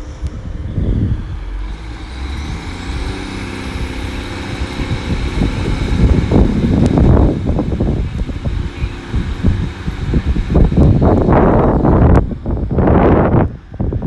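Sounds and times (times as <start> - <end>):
diesel train engine whine: 0.0 - 14.0
heavy rattling rumble: 0.0 - 14.0.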